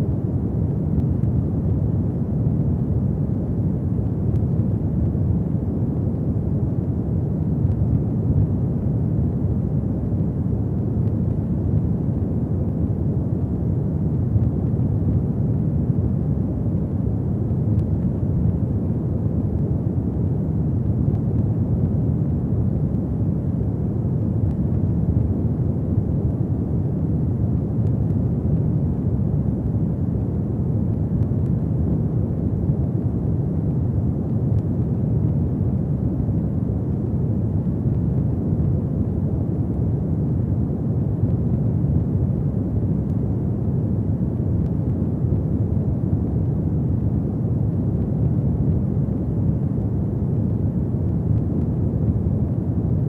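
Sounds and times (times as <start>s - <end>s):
faint fire crackles: 0.0s - 53.0s.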